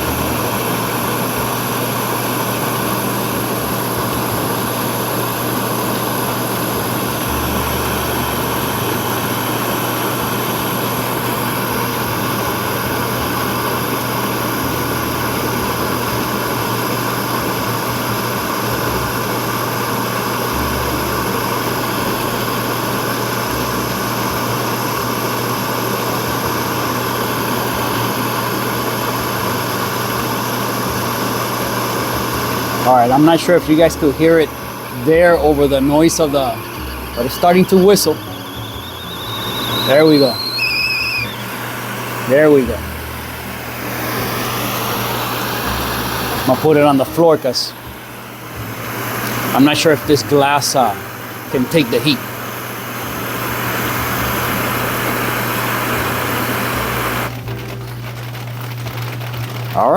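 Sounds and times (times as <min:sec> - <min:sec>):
gas stove burner roaring: 0:00.0 - 0:59.9.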